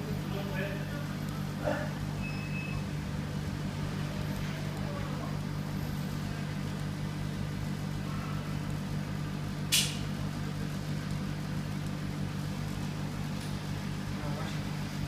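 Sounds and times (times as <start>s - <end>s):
machine fans humming: 0.0s - 15.0s.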